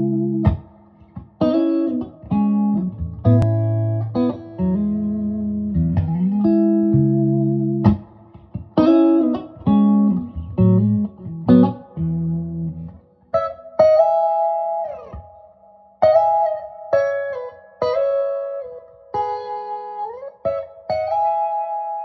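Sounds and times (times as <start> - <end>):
electric guitar chords and lead lines: 0.0 - 22.0.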